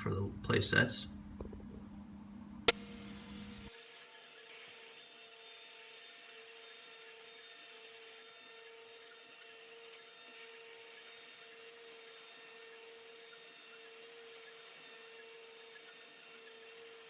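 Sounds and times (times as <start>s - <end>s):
router spindle cutting hardboard: 2.7s - 17.0s.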